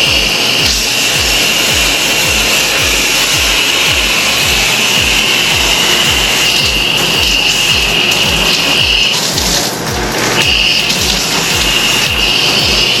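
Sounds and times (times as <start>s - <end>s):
music with deep beat: 0.0s - 13.0s
shower spraying into bathtub: 0.0s - 13.0s.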